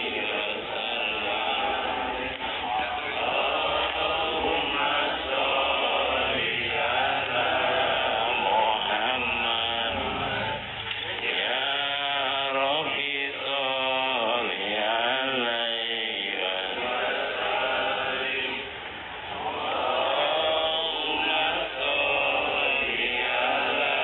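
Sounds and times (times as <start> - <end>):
men chanting prayers: 0.0 - 24.0.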